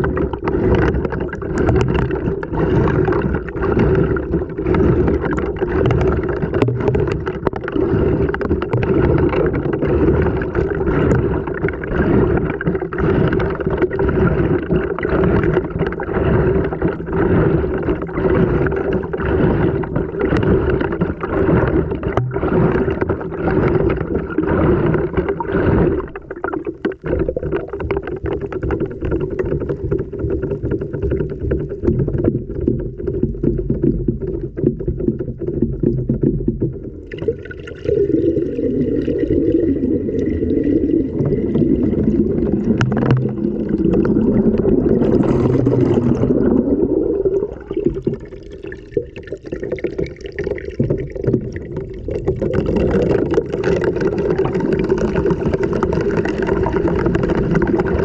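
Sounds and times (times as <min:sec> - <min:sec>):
water sloshing in washing machine: 0:00.0 - 0:58.0.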